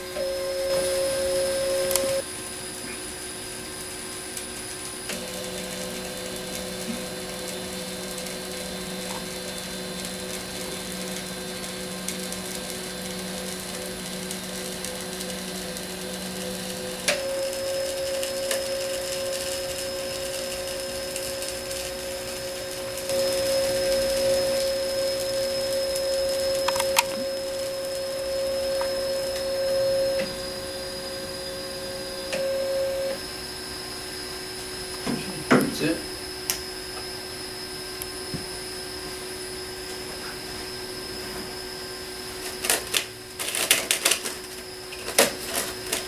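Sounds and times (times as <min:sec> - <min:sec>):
stepper motors whining: 0:00.0 - 0:46.0.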